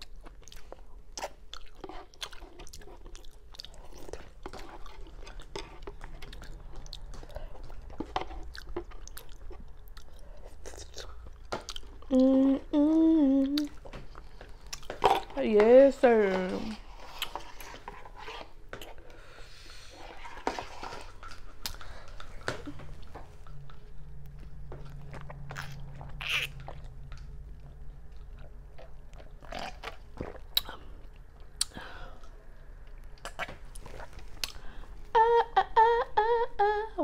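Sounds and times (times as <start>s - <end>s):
chewing and swallowing noodles: 0.0s - 15.4s, 16.8s - 35.1s.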